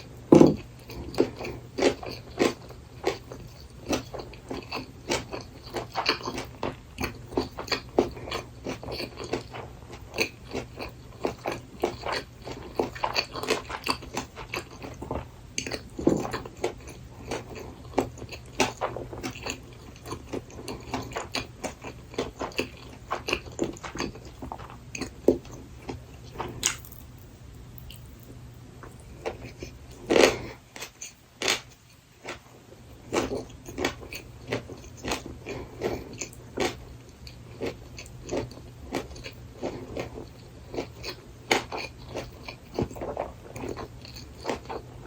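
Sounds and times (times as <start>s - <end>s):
close chewing crunches: 0.0s - 45.0s.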